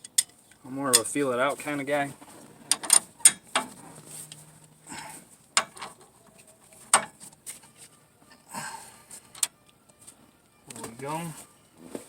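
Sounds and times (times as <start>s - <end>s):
rustling of tools and parts: 0.0s - 12.0s.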